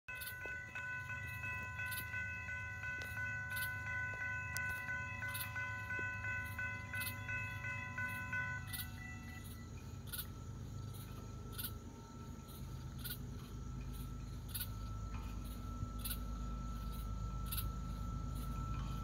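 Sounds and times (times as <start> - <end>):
insects chirping: 0.1 - 19.0
low rumble: 1.1 - 19.0.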